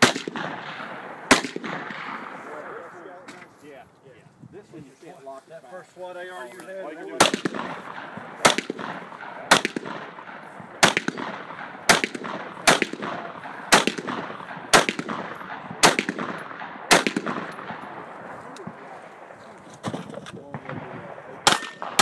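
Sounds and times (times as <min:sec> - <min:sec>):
rifle shots: 0:00.0 - 0:03.3, 0:07.1 - 0:22.0.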